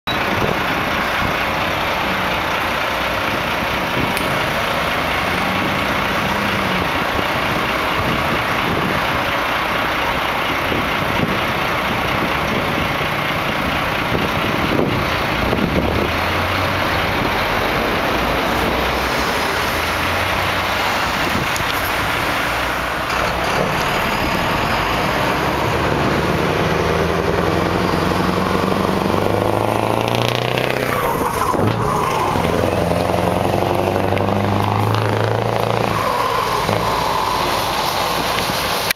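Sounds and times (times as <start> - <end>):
road traffic passing: 0.1 - 38.9
truck diesel engine approaching: 0.1 - 38.9.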